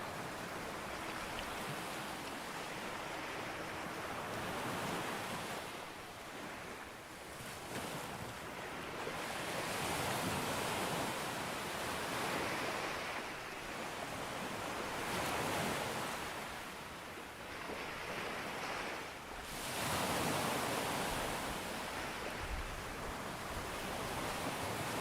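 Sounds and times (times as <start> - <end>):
waves washing up a beach: 0.0 - 25.0.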